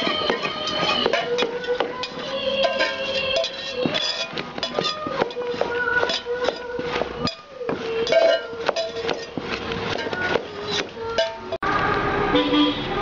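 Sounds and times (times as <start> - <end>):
metal spoon clinking against pot: 0.0 - 11.6.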